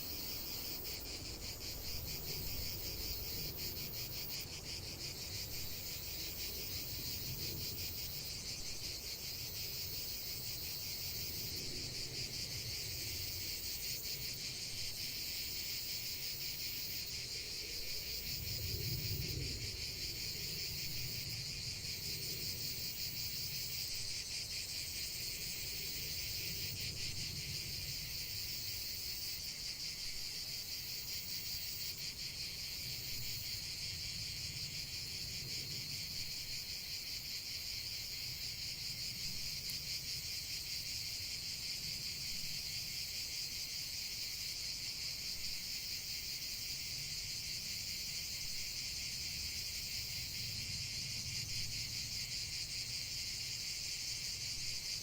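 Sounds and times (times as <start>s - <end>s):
crickets chorus trilling: 0.0s - 55.0s.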